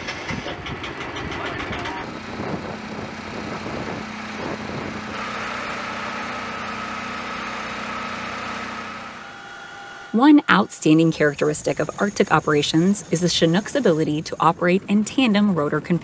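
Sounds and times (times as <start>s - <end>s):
small engine running: 0.0s - 16.0s
high whine: 1.6s - 16.0s.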